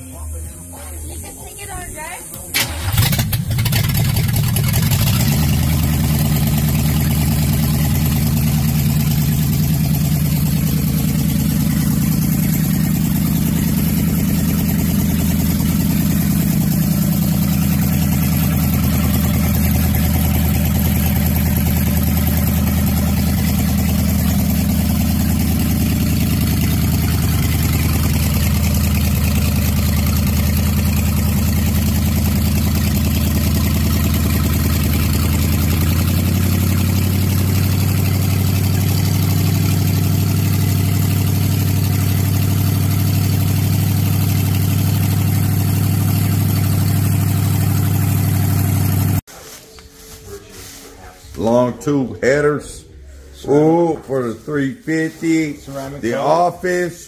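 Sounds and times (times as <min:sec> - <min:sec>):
car engine idling: 0:00.0 - 0:49.3.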